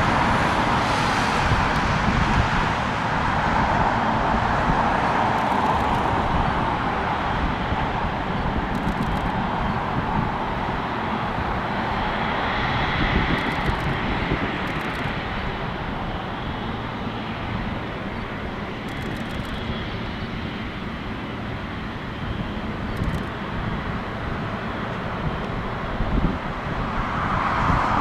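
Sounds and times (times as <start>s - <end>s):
jet engines during takeoff: 0.0s - 28.0s.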